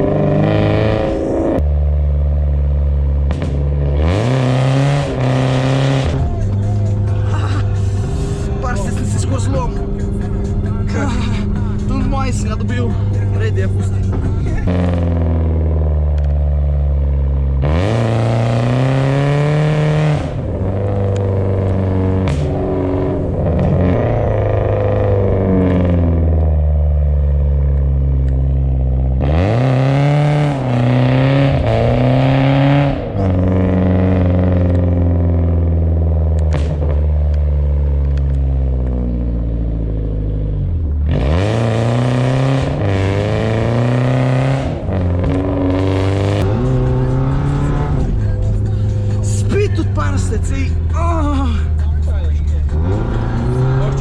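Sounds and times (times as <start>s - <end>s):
car engine revving hard: 0.0s - 1.6s, 3.0s - 54.0s.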